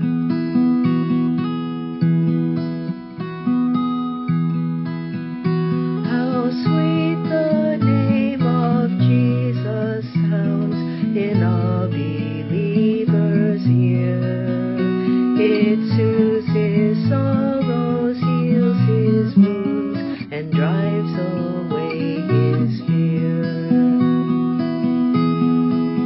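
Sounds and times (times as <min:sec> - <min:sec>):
acoustic guitar hymn melody: 0:00.0 - 0:26.0.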